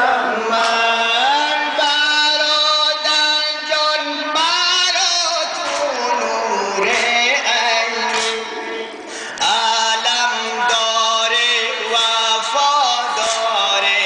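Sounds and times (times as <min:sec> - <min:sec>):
man chanting over loudspeakers: 0:00.0 - 0:14.0.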